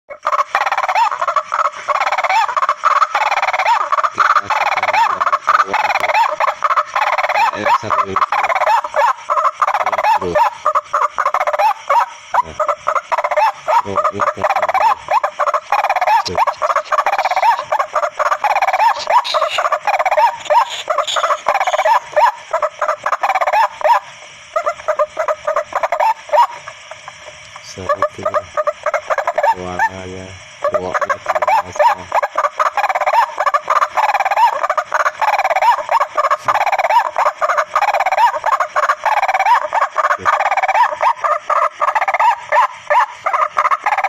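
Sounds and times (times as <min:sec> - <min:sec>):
waterhen croaking calls: 0:00.1 - 0:44.0.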